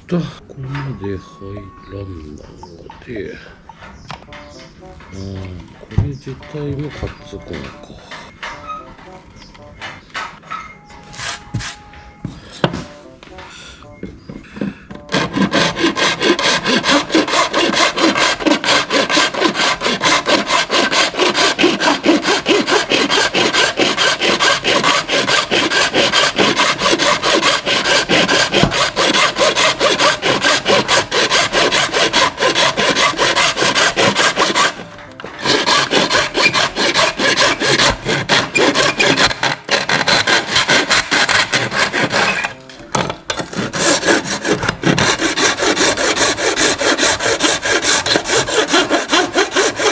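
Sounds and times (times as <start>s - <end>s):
hand tool scraping: 0.0s - 49.9s.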